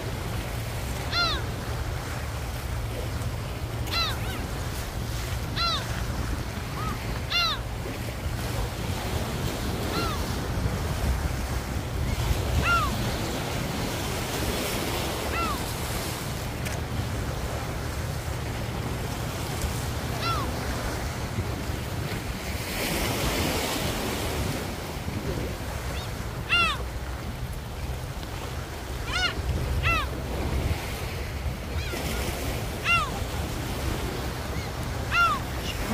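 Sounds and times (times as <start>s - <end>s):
gulls crying: 0.0s - 22.5s, 24.9s - 35.9s
waves washing on beach: 0.0s - 35.9s
wind rumbling on microphone: 0.0s - 35.9s.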